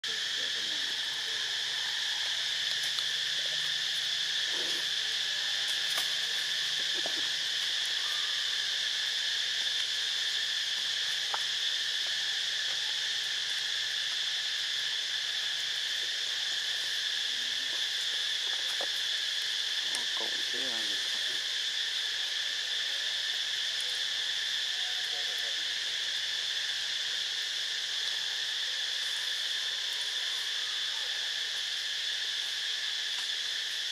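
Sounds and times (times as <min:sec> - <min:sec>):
insects chirring: 0:00.0 - 0:33.9.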